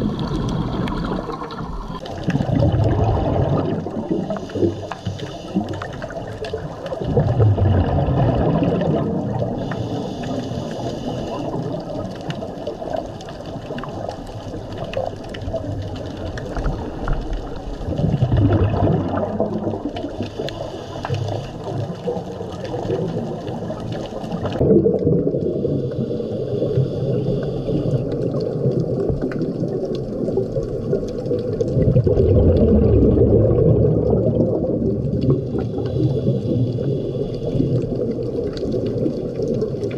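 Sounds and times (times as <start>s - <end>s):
regulator bubbles rumbling: 0.0s - 39.9s
underwater water noise: 0.0s - 39.9s.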